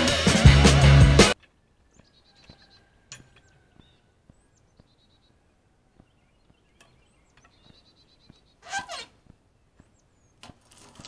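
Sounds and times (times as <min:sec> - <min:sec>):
faint birdsong chirps and trills: 0:01.4 - 0:10.8.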